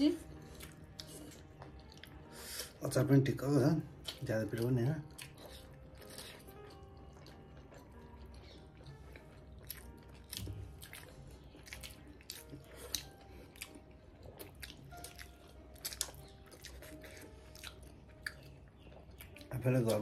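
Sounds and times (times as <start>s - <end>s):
people chewing with wet smacks: 0.3s - 2.8s, 3.4s - 20.0s.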